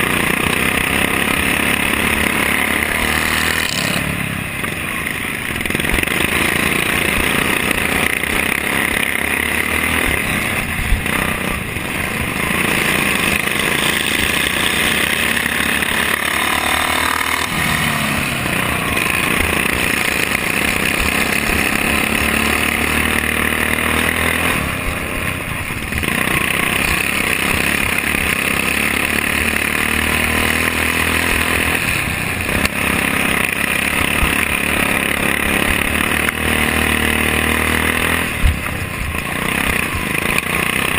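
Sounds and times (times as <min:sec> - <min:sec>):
lawn tractor engine revving: 0:00.0 - 0:40.9.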